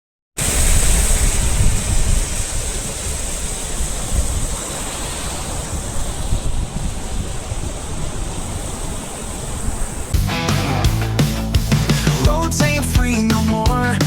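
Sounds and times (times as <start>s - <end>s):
wind buffeting microphone: 0.4s - 12.3s
heavy ocean surf: 0.4s - 13.7s.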